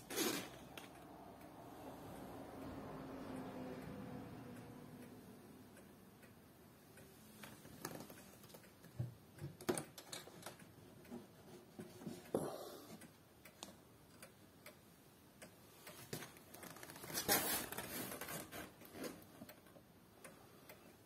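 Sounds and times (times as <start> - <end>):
pendulum clock ticking: 0.6 - 17.2, 17.8 - 21.0.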